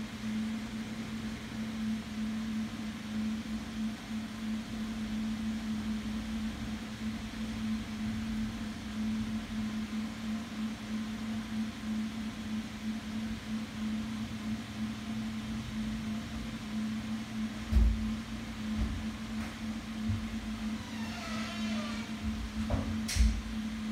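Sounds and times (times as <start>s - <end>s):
electrical machine hum: 0.0s - 23.9s.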